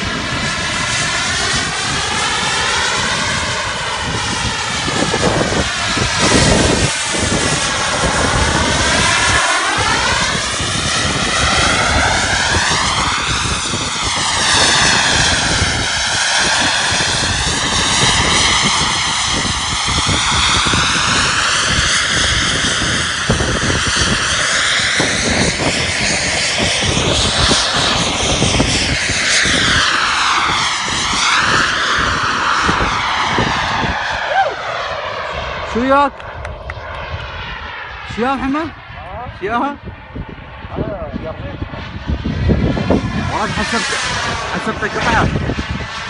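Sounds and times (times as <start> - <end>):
model jet turbine whining: 0.0 - 46.0
rush of air: 0.0 - 46.0.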